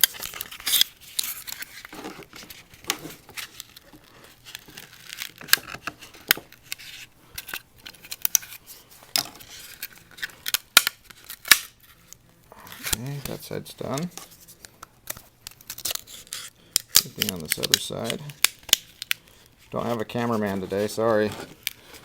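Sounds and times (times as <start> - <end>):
carbon fiber part popping and crackling: 0.0 - 20.0.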